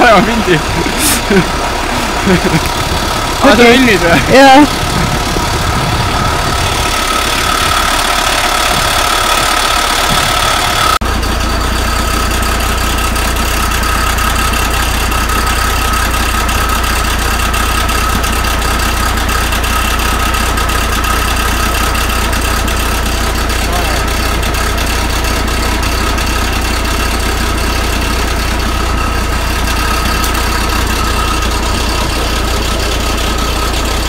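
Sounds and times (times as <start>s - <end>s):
deep steady hum: 0.0s - 34.0s
tractor diesel engine idling: 0.0s - 34.0s.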